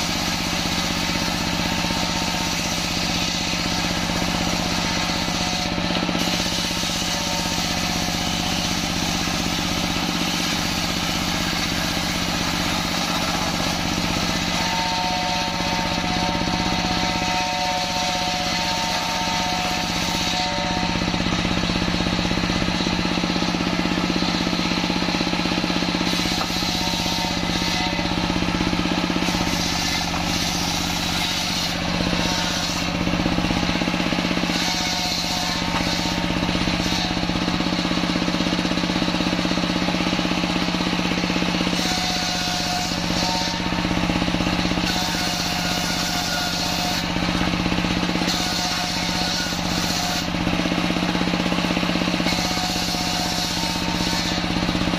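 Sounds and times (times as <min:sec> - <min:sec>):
diesel engine running: 0:00.0 - 0:54.9
table saw ripping wood: 0:00.0 - 0:54.9.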